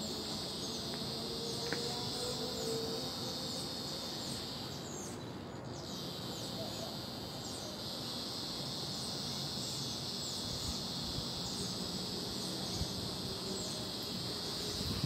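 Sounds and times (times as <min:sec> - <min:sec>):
cicada high-pitched buzz: 0:00.0 - 0:15.0.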